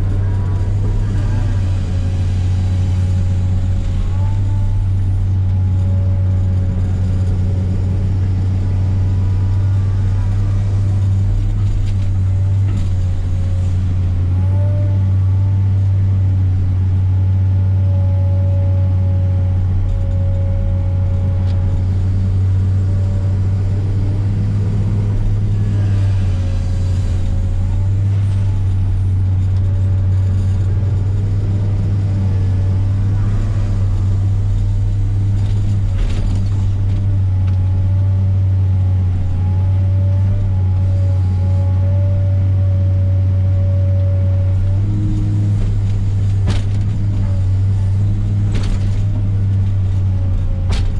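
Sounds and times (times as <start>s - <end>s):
excavator diesel engine droning: 0.0s - 50.9s.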